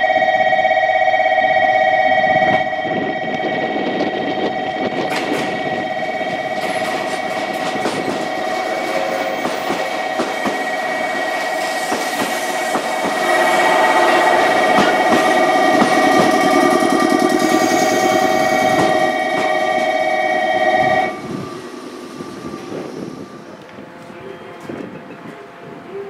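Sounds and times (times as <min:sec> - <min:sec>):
wavering train whine: 0:00.0 - 0:26.0
train wheels clicking on rails: 0:03.3 - 0:25.0.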